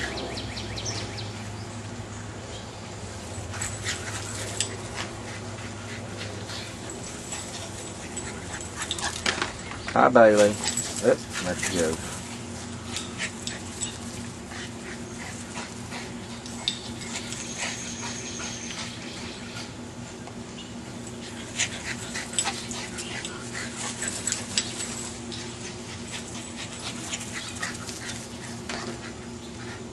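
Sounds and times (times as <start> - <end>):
steady low hum: 0.0 - 29.9
dog paws clicking and scuffling: 3.0 - 29.9.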